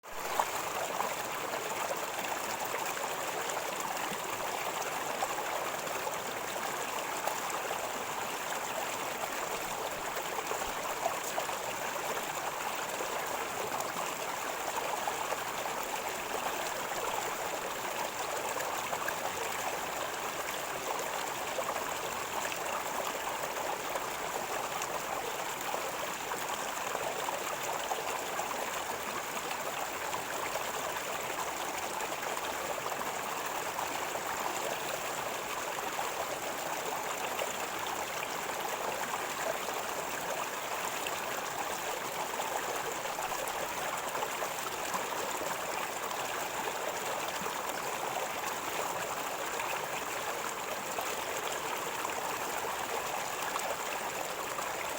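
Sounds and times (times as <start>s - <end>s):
river water flowing: 0.1s - 54.9s.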